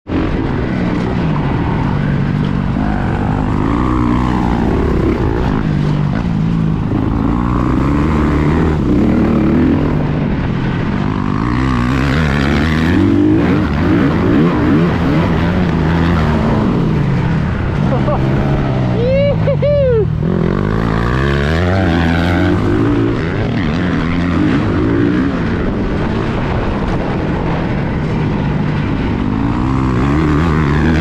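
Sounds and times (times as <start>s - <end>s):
dirt bike engine revving: 0.1s - 31.0s.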